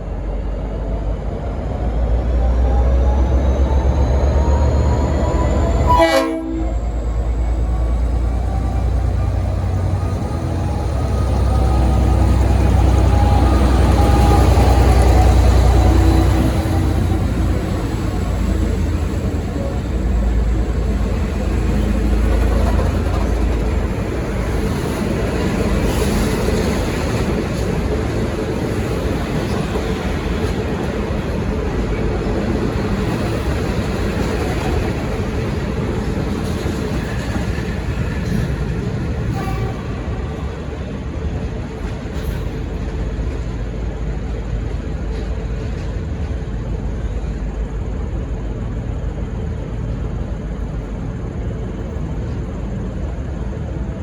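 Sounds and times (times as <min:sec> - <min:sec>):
diesel locomotive rumbling: 0:00.0 - 0:54.0
train wheels rolling on track: 0:00.0 - 0:54.0.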